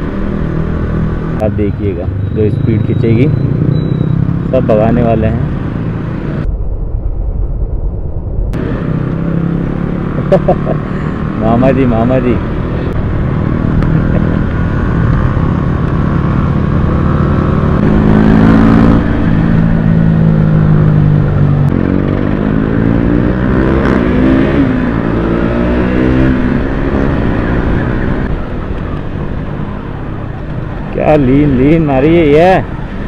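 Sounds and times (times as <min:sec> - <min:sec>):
motorcycles revving: 0:00.0 - 0:06.5, 0:08.5 - 0:33.0.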